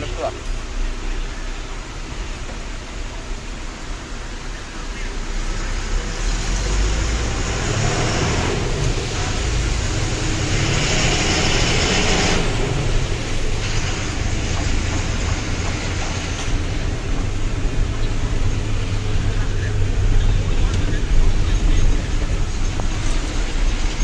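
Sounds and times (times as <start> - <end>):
lorry engine rumbling: 0.0 - 24.0.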